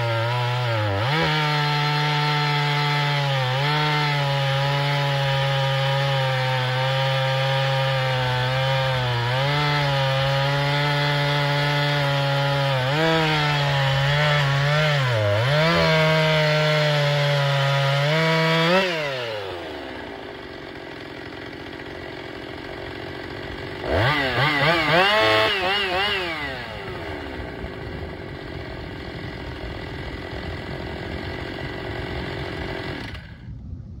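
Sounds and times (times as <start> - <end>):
chainsaw revving and idling: 0.0 - 33.5.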